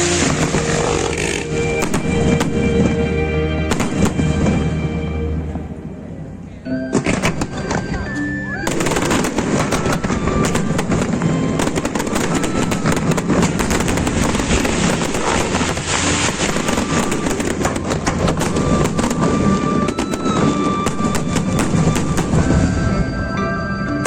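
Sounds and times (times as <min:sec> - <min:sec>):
fireworks bangs and crackles: 0:00.0 - 0:04.9, 0:07.0 - 0:08.0, 0:08.6 - 0:23.2.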